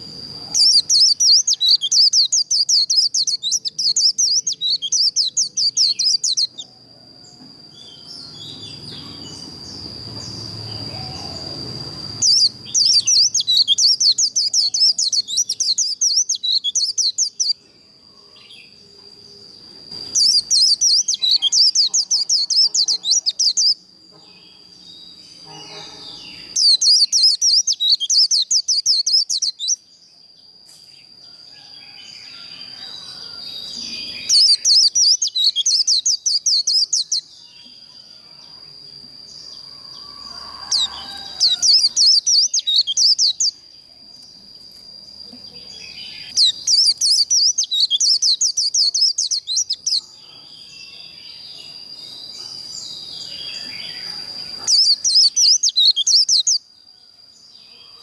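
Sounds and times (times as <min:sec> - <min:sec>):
bird twittering song: 0:00.0 - 0:17.7, 0:18.3 - 0:31.1, 0:31.8 - 0:56.7
thin steady high tone: 0:00.0 - 0:58.0.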